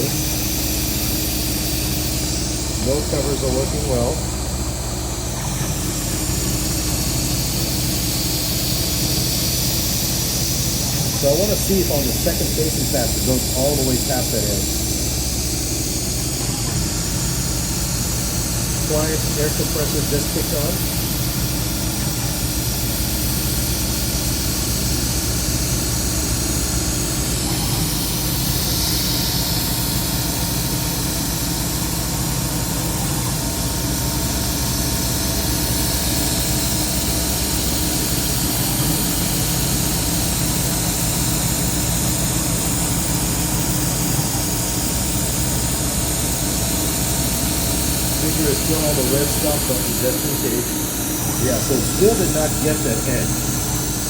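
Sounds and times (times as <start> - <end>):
air blast hissing: 0.0 - 54.0
milling machine cutting: 0.0 - 54.0
quiet air compressor running: 0.0 - 54.0.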